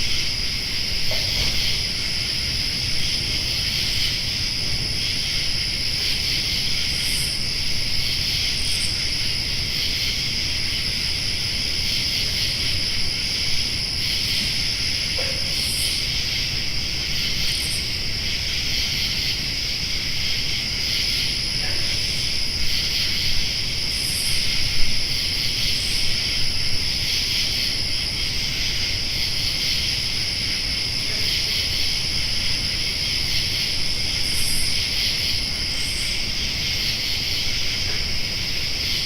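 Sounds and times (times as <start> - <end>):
high insect chirps: 0.0 - 39.0
insects trilling drone: 0.0 - 39.0.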